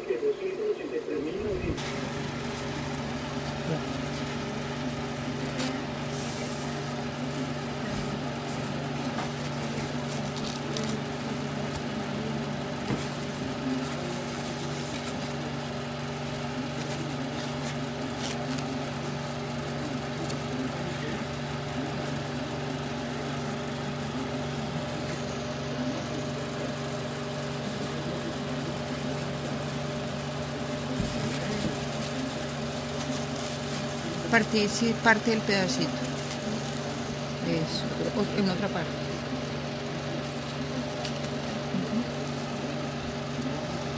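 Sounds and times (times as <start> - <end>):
machine humming: 0.0 - 43.9.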